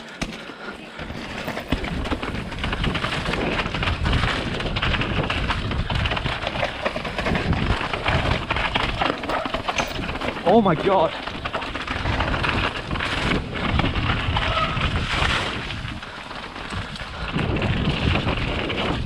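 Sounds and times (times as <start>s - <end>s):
mountain bike rattling on trail: 0.0s - 19.0s
wind rushing over microphone: 1.8s - 19.0s.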